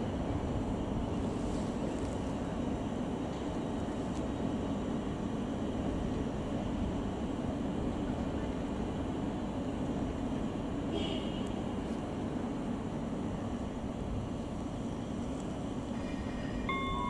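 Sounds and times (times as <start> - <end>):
distant train rumble: 0.0 - 17.0.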